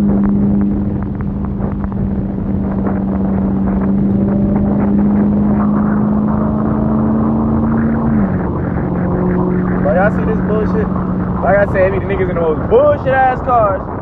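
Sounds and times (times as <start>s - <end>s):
car engine drone: 0.0s - 14.0s.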